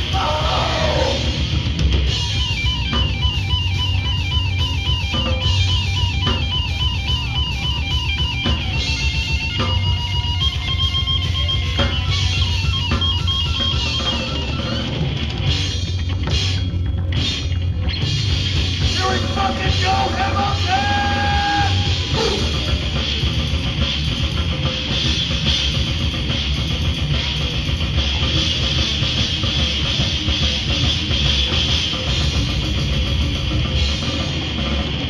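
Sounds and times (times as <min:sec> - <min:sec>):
bass guitar: 0:00.0 - 0:35.0
distorted electric guitar: 0:00.0 - 0:35.0
drum kit: 0:00.0 - 0:35.0.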